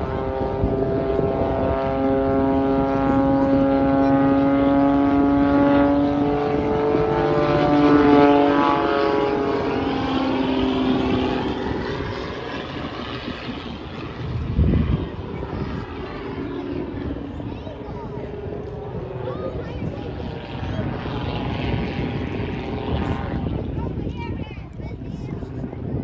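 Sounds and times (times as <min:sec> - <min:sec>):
propeller airplane droning overhead: 0:00.0 - 0:26.0.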